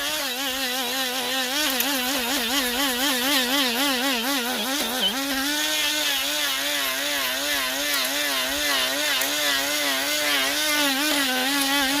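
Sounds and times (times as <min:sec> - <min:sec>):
die grinder motor whine: 0:00.0 - 0:12.0.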